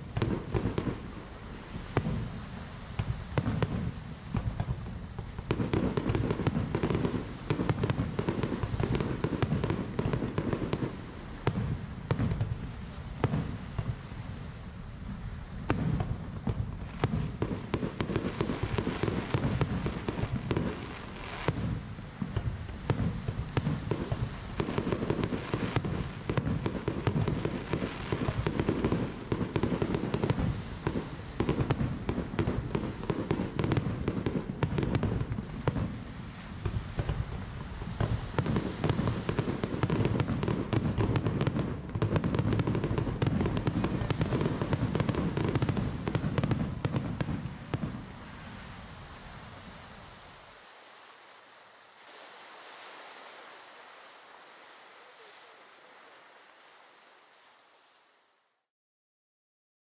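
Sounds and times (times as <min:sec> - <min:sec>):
fireworks booming and crackling: 0:00.0 - 0:49.3.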